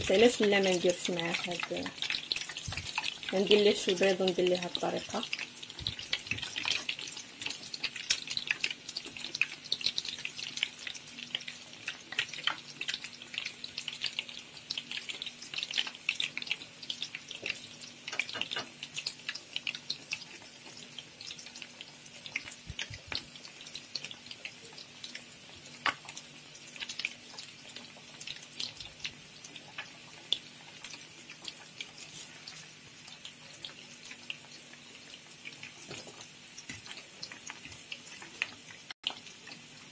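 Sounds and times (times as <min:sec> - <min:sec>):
bread sizzling in hot oil: 0:00.0 - 0:39.9.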